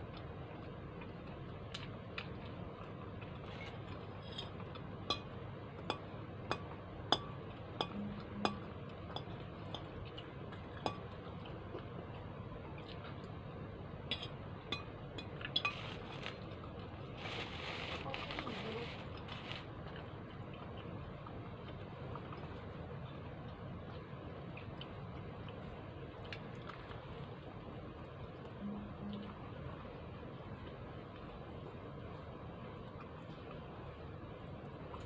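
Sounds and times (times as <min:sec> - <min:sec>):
low background noise: 0:00.0 - 0:35.0.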